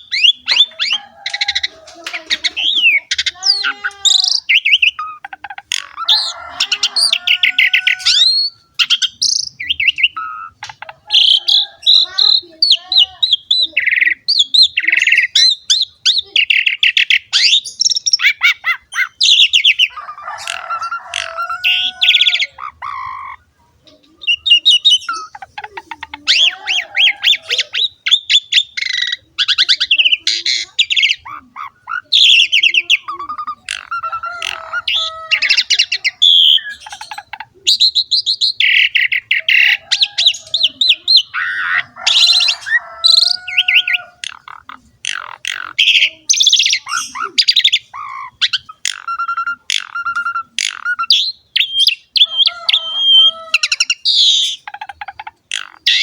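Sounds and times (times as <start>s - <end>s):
starling singing chattering song: 0.0s - 56.0s.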